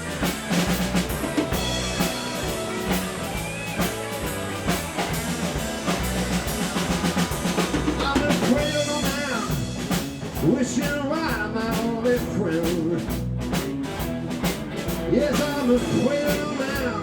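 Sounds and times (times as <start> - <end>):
blues band playing: 0.0 - 17.0
drum kit beat: 0.0 - 17.0.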